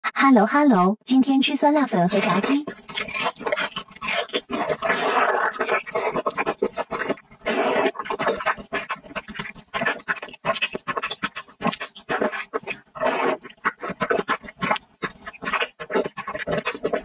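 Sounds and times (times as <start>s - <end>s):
slurping noodles: 1.9s - 17.0s
wet chewing: 1.9s - 17.0s.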